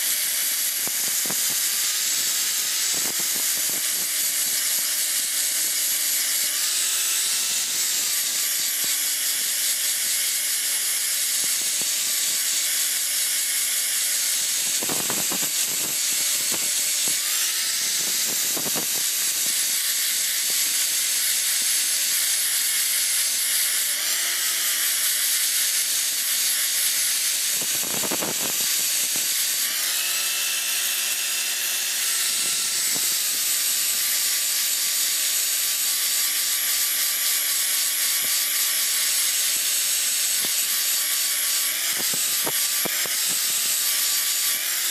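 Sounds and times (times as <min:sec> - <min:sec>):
angle grinder grinding metal: 0:00.0 - 0:44.9.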